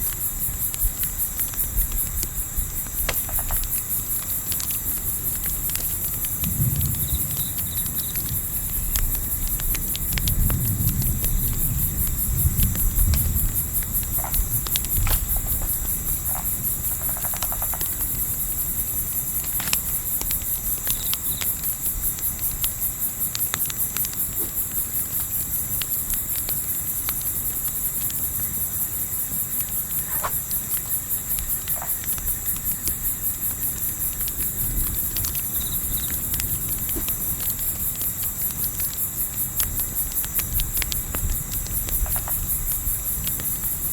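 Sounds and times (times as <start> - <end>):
wind gusts rumbling: 0.0 - 20.8, 29.1 - 43.9
campfire crackling: 0.0 - 43.9
crickets chirping: 0.0 - 43.9.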